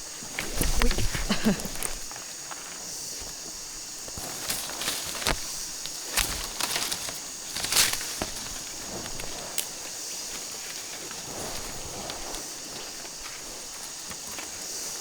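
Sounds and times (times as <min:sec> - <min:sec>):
steady high-pitched hiss: 0:00.0 - 0:15.0
sharp crackles and knocks: 0:00.1 - 0:15.0.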